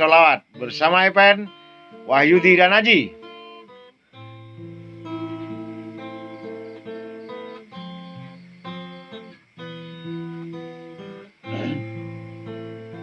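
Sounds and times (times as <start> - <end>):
acoustic guitar single notes: 0.0 - 13.0.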